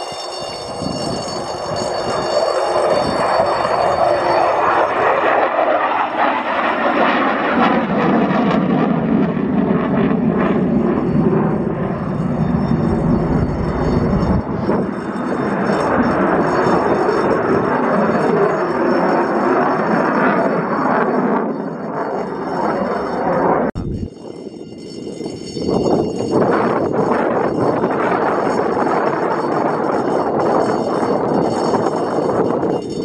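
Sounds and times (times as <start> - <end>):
fighter jet engine roar: 0.0 - 33.0.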